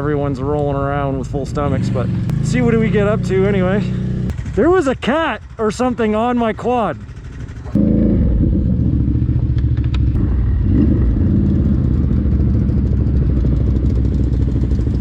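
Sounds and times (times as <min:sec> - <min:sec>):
quad engine running: 0:00.0 - 0:15.0.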